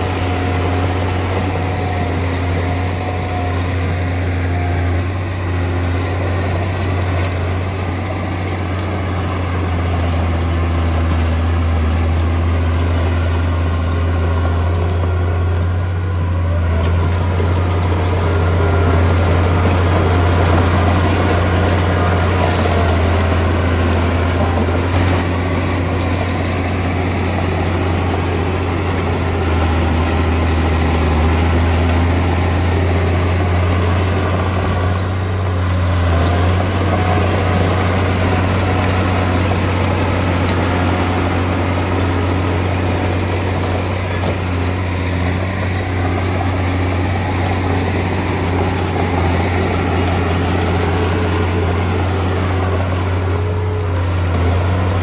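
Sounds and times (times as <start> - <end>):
diesel engine deep drone: 0.0 - 55.0.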